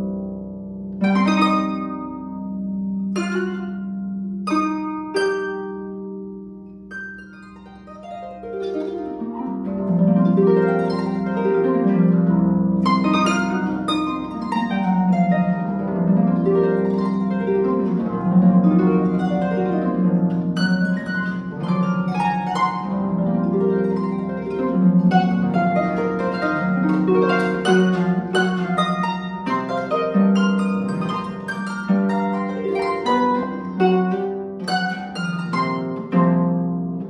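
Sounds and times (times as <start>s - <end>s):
harp plucked notes and chords: 0.0s - 37.0s.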